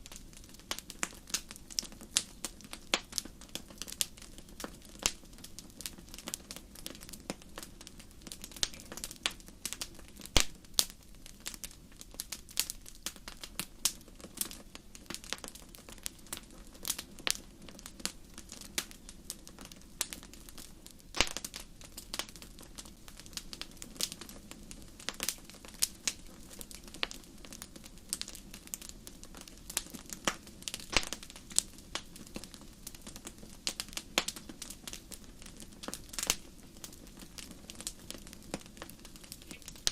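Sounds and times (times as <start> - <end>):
campfire crackling: 0.0 - 39.9
faint low background noise: 0.0 - 39.9.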